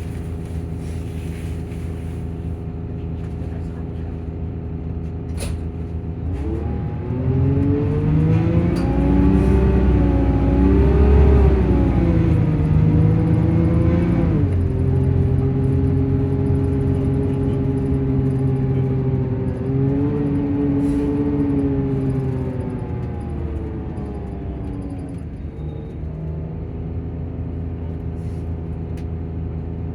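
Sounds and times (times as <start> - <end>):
coach engine and cooling fan: 0.0 - 29.9.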